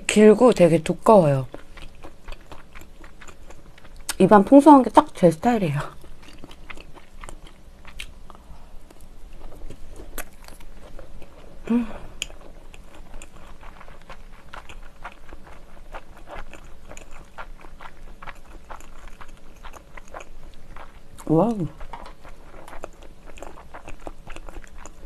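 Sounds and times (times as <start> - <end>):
mouth chewing with wet clicks: 1.4 - 4.2, 5.9 - 11.4, 12.2 - 25.0.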